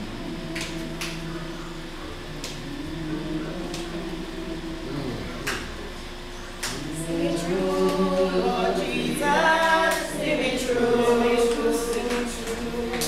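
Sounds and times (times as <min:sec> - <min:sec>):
congregation singing a hymn: 0:00.0 - 0:05.9, 0:06.6 - 0:13.0.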